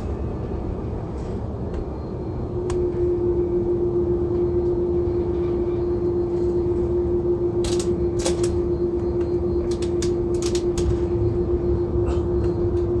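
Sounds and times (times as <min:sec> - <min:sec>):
airliner cabin rumble and hum: 0:00.0 - 0:13.0.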